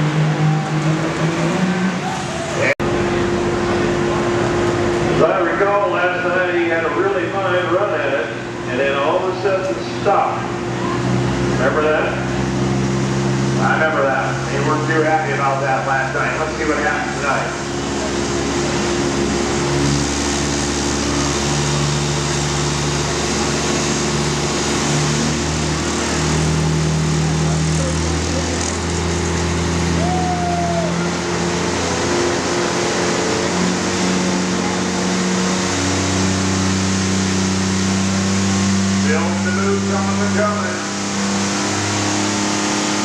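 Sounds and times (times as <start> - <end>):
diesel truck engine at high revs: 0.0 - 43.0.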